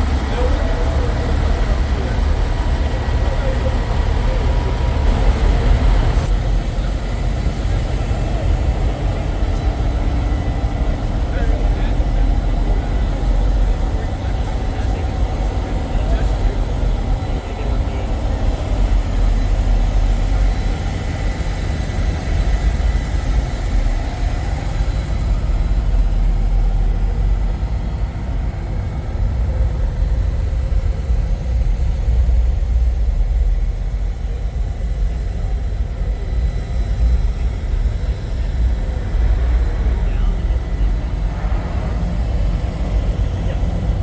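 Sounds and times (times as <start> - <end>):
truck diesel engines idling: 0.0 - 44.0.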